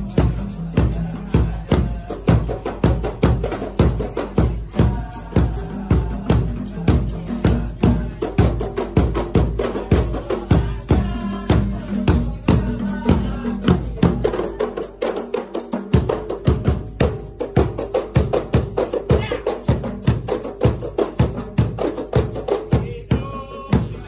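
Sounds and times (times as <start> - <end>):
drum-led percussion music: 0.0 - 24.0.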